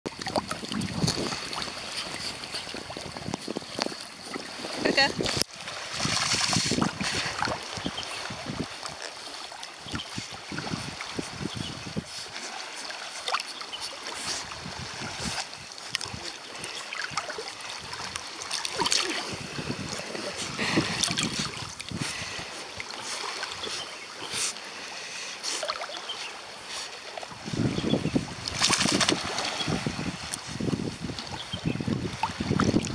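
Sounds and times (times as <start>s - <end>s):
water splashing: 0.1s - 32.9s.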